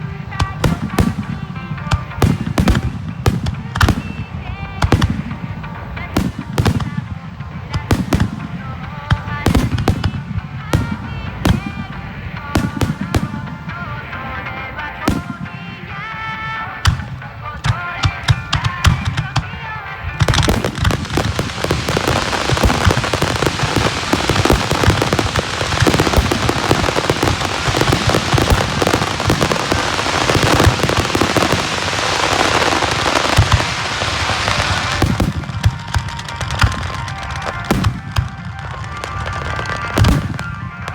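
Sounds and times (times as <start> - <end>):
fireworks bangs and crackling: 0.0 - 40.9
music: 0.0 - 40.9.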